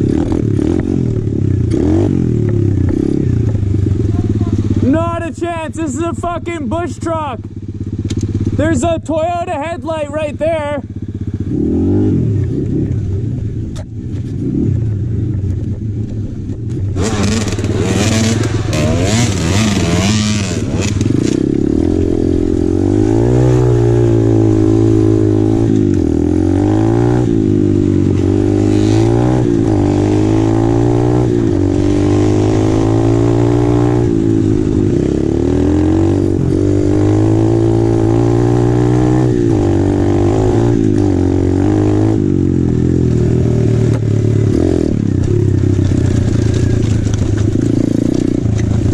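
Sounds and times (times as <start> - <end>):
pit bike engine revving: 0.0 - 13.6, 16.9 - 48.9.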